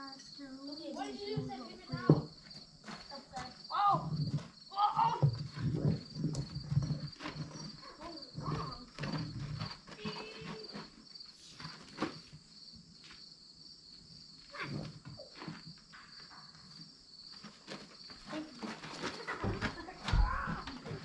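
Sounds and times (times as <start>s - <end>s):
crickets chirping: 0.0s - 21.0s
knocks and rustles on wagon: 1.0s - 12.4s, 14.5s - 21.0s.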